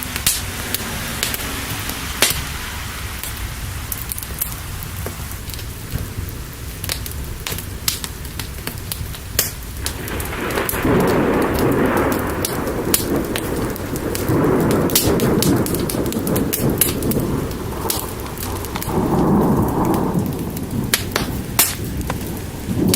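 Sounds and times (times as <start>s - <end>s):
sharp crackling pops: 0.0s - 22.9s
steady rain: 0.0s - 22.9s
thunder rumbling: 0.0s - 22.9s.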